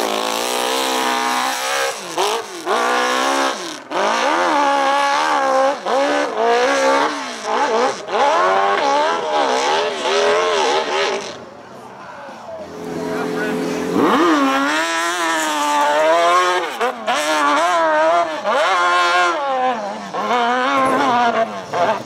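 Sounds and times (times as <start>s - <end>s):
dirt bike engine revving hard: 0.0s - 11.4s, 12.7s - 22.0s.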